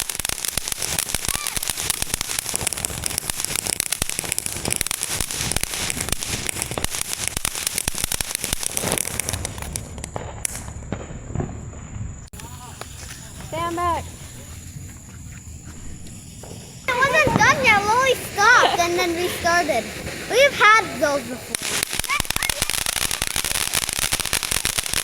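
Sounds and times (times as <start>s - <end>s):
firework rising whistle: 0.0s - 10.8s, 11.4s - 25.0s
firework crackling pops: 0.0s - 25.0s.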